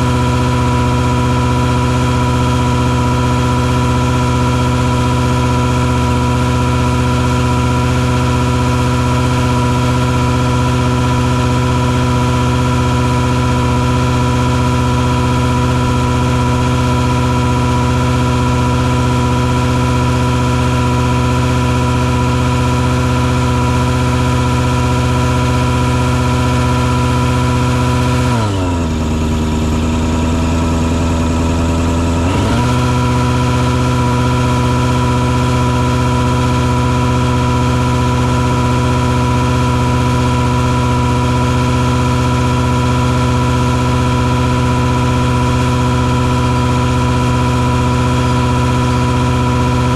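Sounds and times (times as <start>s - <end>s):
fogging rig engine running: 0.0s - 49.9s.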